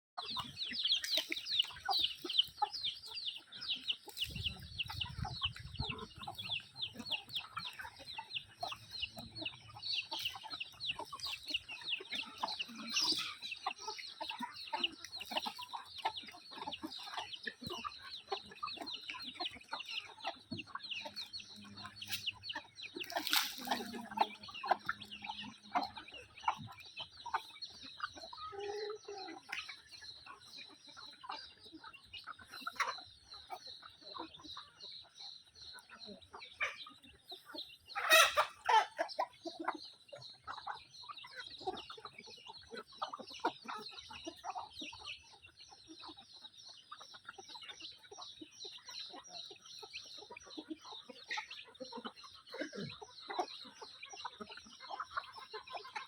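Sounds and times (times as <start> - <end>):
chickens peeping and clucking: 0.2 - 56.0.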